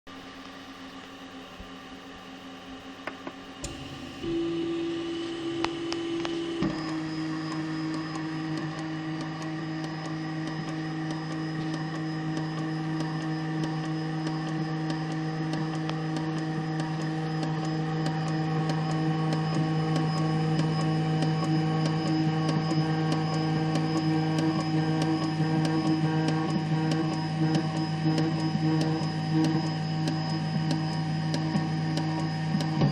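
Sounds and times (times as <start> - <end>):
stepper motor whine: 0.1 - 32.9.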